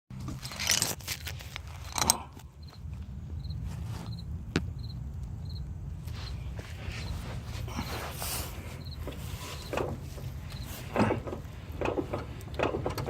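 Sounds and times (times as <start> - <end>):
engine hum: 0.1 - 13.0.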